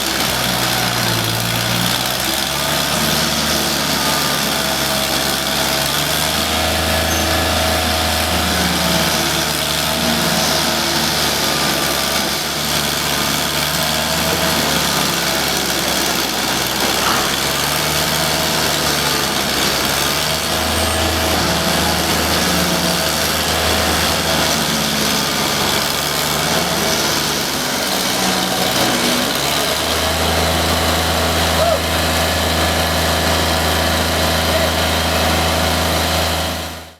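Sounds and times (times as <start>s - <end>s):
small engine running: 0.0s - 36.9s.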